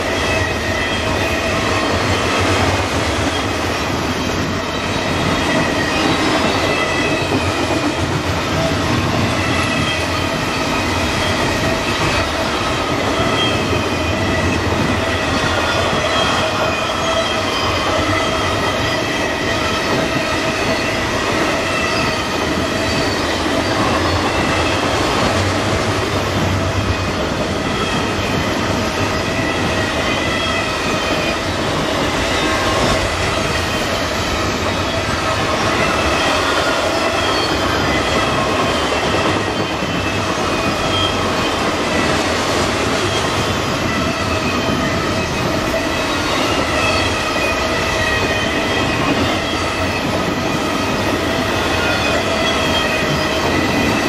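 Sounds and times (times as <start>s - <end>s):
steel wheels rolling on rail: 0.0s - 54.0s.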